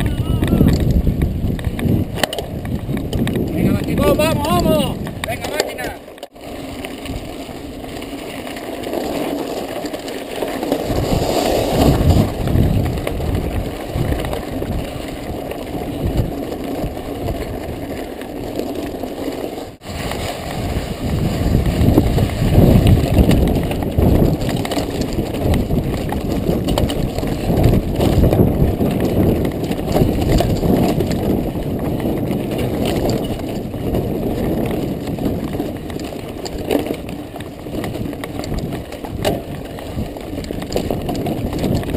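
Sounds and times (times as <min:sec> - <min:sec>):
bike knocks and rattles: 0:00.0 - 0:41.9
tyres rumbling on dirt trail: 0:00.0 - 0:41.9.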